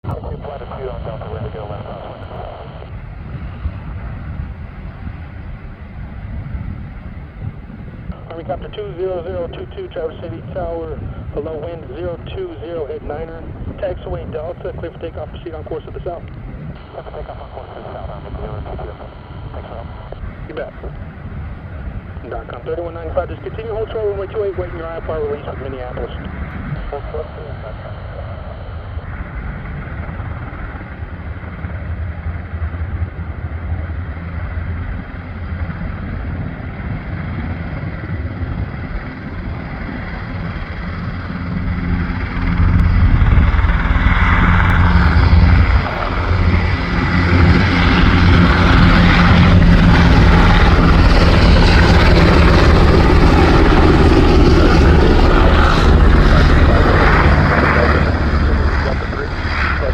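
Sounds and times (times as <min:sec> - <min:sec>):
helicopter rotors and engines: 0:00.0 - 0:59.9.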